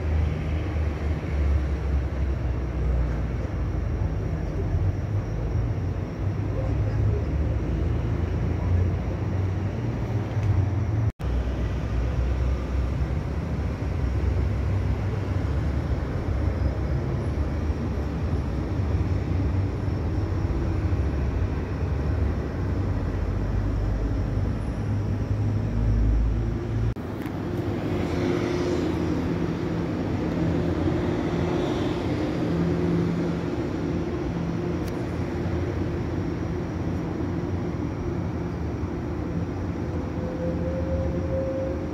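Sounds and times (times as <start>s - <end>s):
low city rumble: 0.0s - 41.9s.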